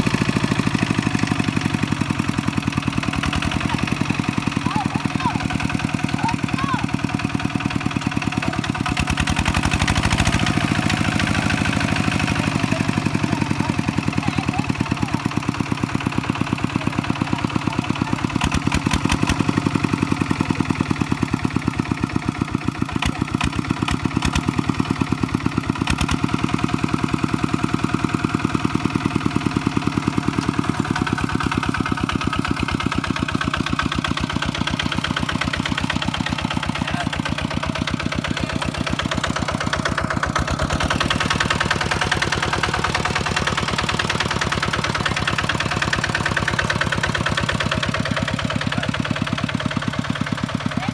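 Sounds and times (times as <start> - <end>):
diesel engine chugging: 0.0 - 50.9.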